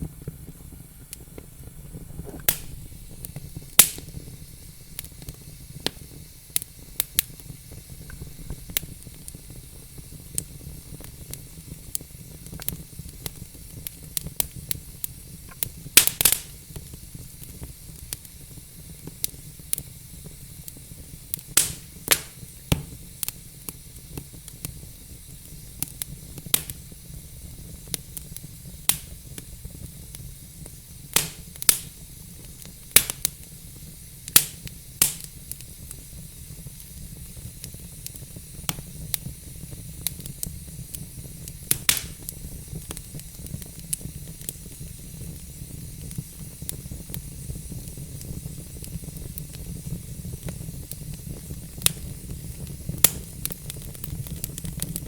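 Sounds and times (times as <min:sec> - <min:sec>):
logs crackling and popping: 0:00.0 - 0:19.9, 0:20.7 - 0:24.8, 0:25.5 - 0:26.9, 0:27.8 - 0:29.5, 0:30.6 - 0:33.6, 0:34.3 - 0:55.0
fire rumbling and hissing: 0:00.0 - 0:55.0.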